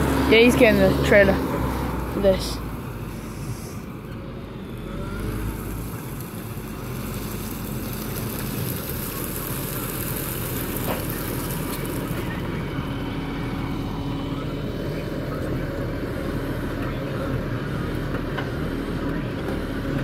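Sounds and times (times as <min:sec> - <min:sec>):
farm machinery engine running: 0:00.0 - 0:20.0.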